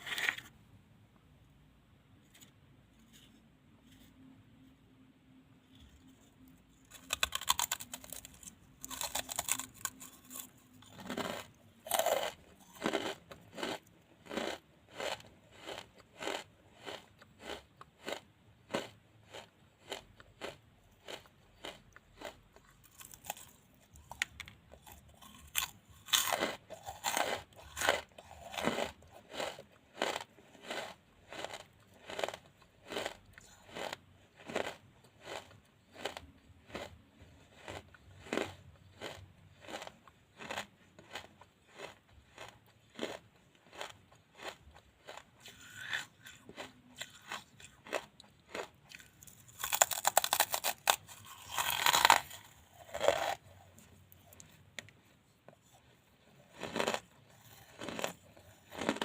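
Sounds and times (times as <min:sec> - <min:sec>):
charcoal crunching when chewed: 0:05.7 - 0:59.0.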